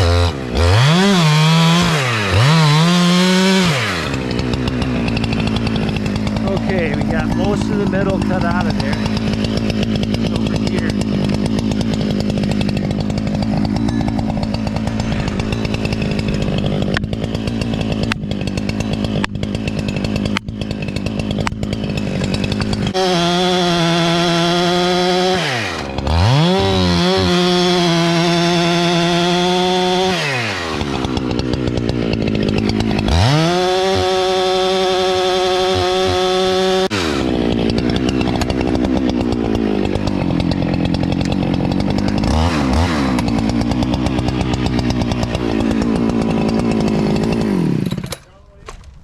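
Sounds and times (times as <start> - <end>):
chainsaw cutting wood: 0.0 - 49.0
chainsaw idling and revving: 0.0 - 49.0.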